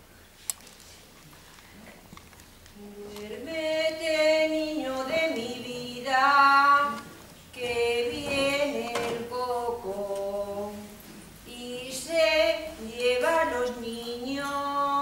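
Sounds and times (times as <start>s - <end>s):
woman singing unaccompanied: 2.8s - 15.0s.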